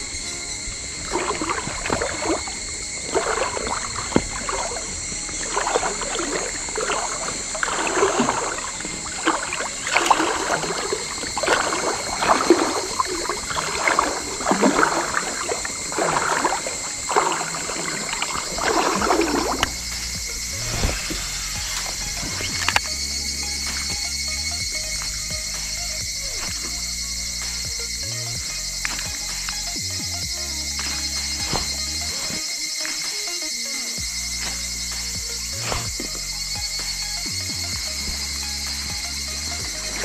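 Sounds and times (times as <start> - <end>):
insects droning: 0.0 - 40.0
water swishing and sloshing: 0.0 - 40.0.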